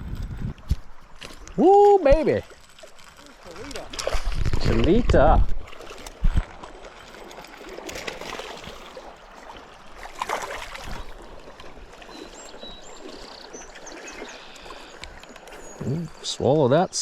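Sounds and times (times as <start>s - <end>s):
river water running: 0.0s - 17.0s.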